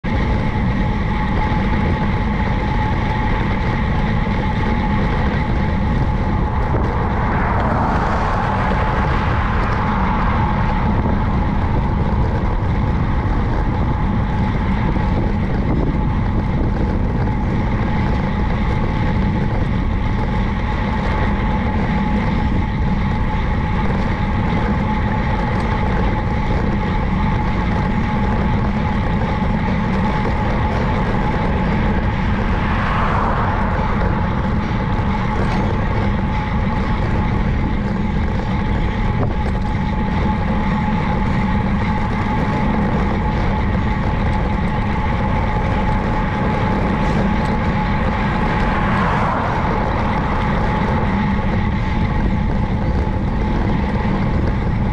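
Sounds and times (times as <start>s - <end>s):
constant hum: 0.0s - 54.9s
wind and road noise: 0.0s - 54.9s.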